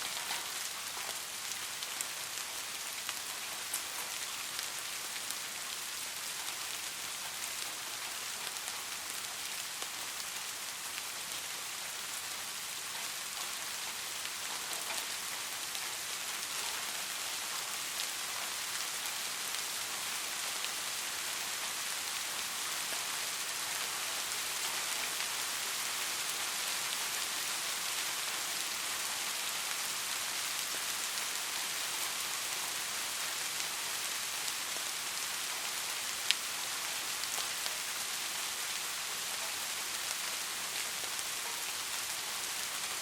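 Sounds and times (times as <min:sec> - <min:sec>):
rain falling on a street: 0:00.0 - 0:43.0.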